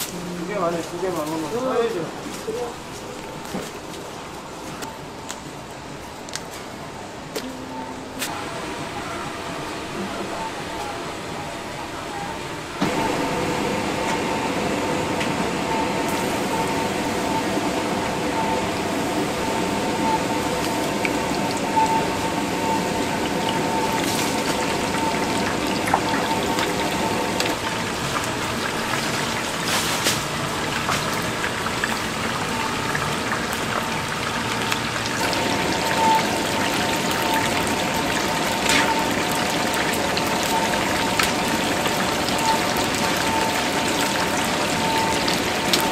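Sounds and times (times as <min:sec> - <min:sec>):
chicken deep-frying in oil: 0:00.0 - 0:06.0, 0:08.3 - 0:45.9.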